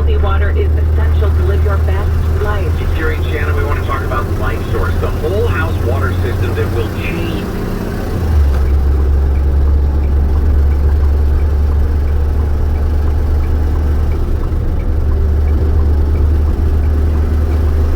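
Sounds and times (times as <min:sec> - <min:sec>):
faint ticking: 0:00.0 - 0:17.9
truck diesel engine running: 0:00.0 - 0:17.9.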